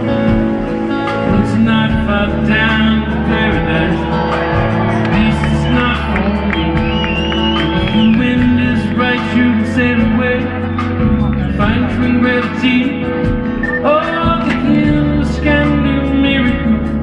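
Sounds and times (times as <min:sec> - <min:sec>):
melodic lead line: 0:00.0 - 0:16.3
acoustic guitar: 0:00.0 - 0:17.0.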